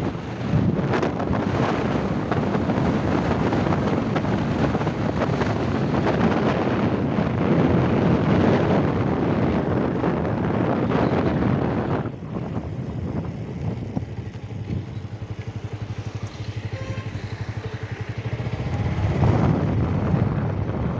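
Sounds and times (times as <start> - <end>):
vehicle road and engine noise: 0.0 - 20.9
wind buffeting microphone: 0.0 - 20.9.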